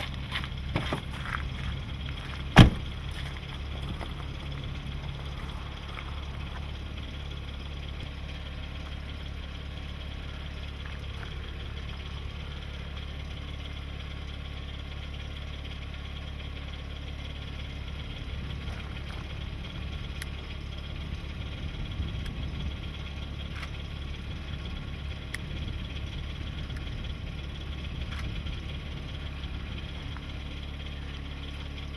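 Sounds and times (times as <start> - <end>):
car engine idling: 0.0 - 31.9
faint engine ticks: 0.0 - 31.9.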